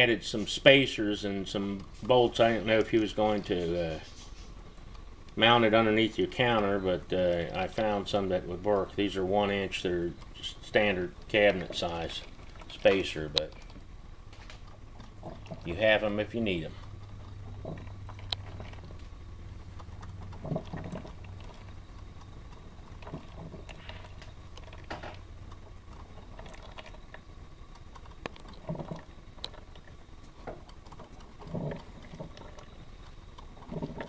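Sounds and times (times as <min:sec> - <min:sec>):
coffee maker humming: 0:00.0 - 0:34.0
coffee maker sputtering and clicking: 0:00.0 - 0:34.0.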